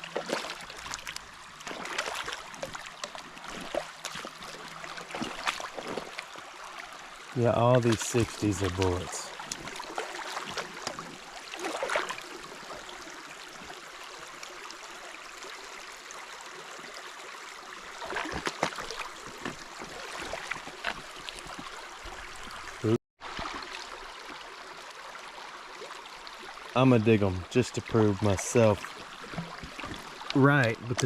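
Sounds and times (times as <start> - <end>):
creek water running: 0.0 - 31.0
water splashes: 0.0 - 31.0.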